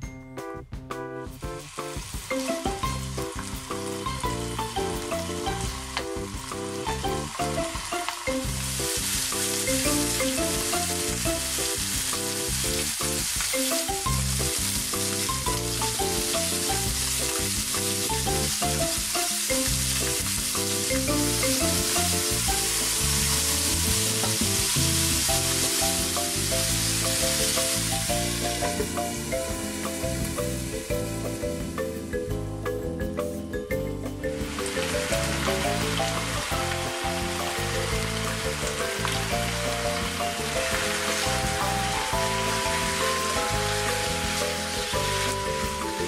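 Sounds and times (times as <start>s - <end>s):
background music: 0.0s - 46.0s
chicken sizzling in a frying pan: 1.4s - 31.8s, 34.4s - 46.0s.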